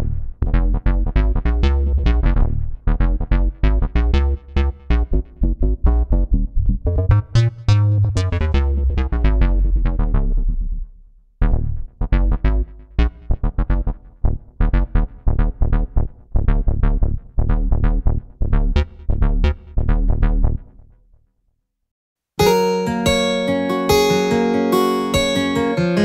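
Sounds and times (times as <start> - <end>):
synthesizer bass line: 0.0 - 20.6, 22.4 - 26.0.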